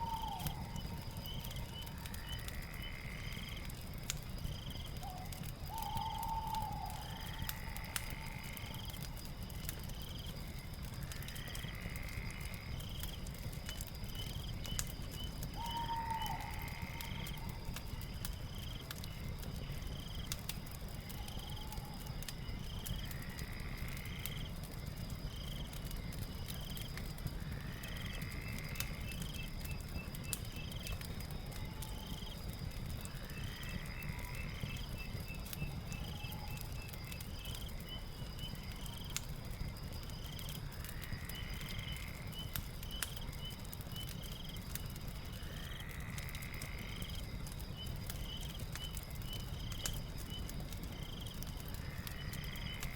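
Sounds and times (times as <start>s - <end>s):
fire popping: 0.0s - 52.9s
fireplace crackling: 0.0s - 52.9s
high insect trill: 0.0s - 52.9s.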